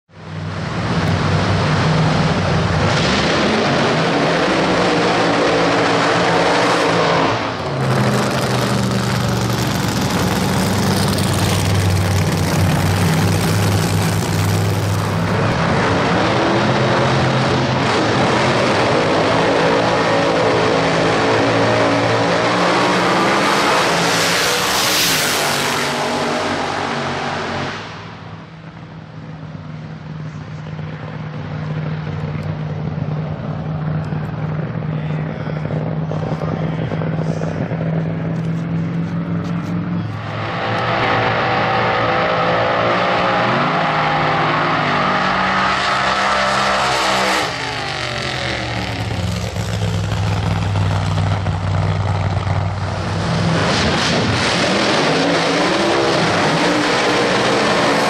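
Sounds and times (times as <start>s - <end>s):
drag car engine revving: 0.4s - 28.6s, 31.1s - 58.0s.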